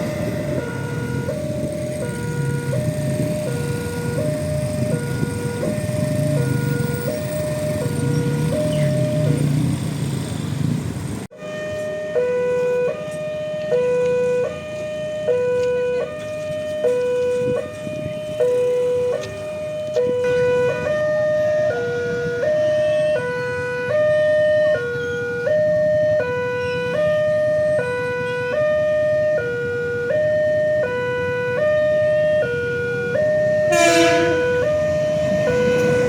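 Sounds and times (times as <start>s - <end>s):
two-tone level crossing siren: 0.0s - 9.7s, 11.3s - 36.0s.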